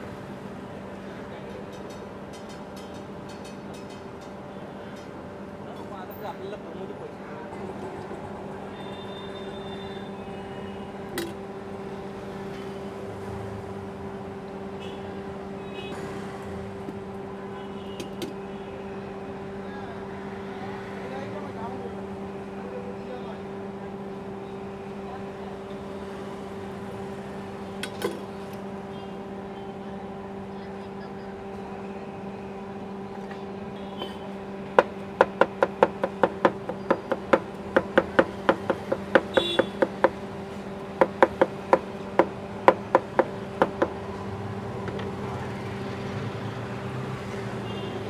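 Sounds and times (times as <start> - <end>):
mechanical hum: 0.0 - 48.0
street noise: 0.0 - 48.0.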